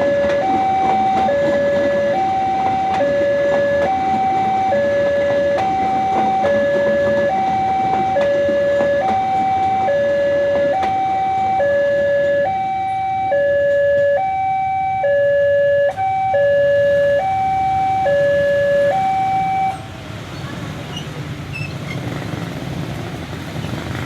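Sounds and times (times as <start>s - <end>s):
two-tone siren: 0.0s - 19.9s.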